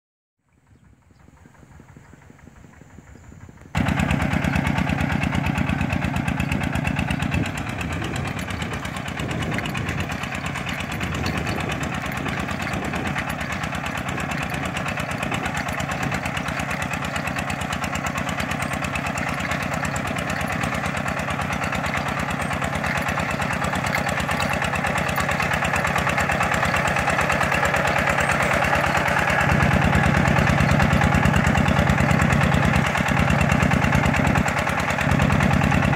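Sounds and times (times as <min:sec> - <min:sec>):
tractor engine running: 0:00.4 - 0:35.9.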